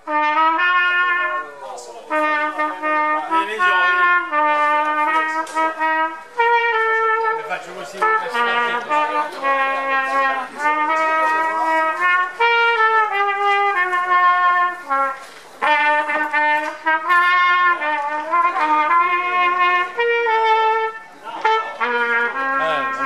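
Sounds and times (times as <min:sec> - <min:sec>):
trumpet melody: 0:00.0 - 0:23.0.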